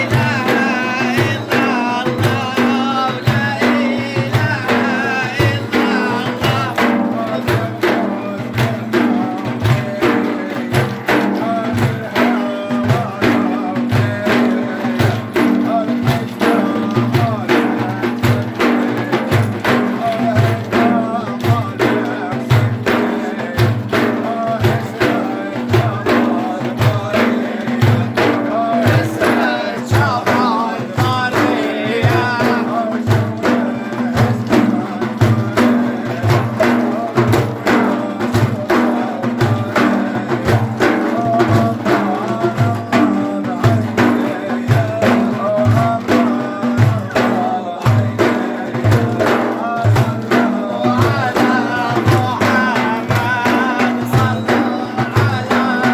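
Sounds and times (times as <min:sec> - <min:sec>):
drums beating fast rhythm: 0:00.0 - 0:55.9
voices singing: 0:00.0 - 0:55.9.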